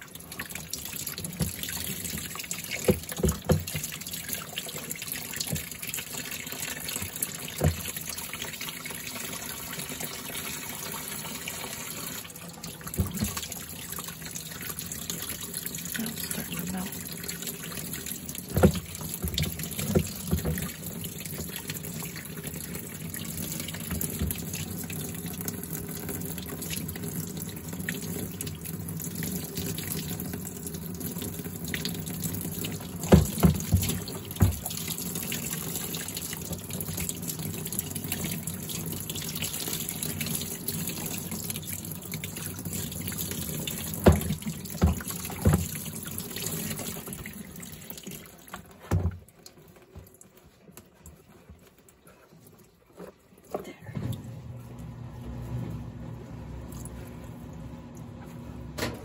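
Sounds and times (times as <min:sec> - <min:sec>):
tap water splashing in sink: 0:00.0 - 0:52.3.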